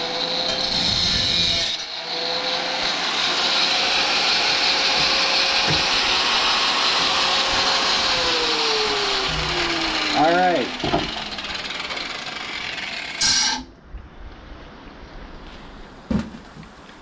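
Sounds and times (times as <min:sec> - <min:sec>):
power tool cutting sheet metal: 0:00.0 - 0:13.7.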